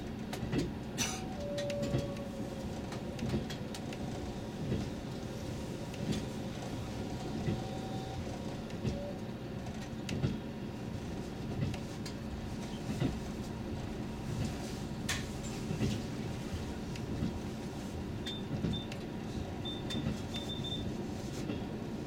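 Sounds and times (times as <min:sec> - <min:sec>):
train engine rumble: 0:00.0 - 0:22.0.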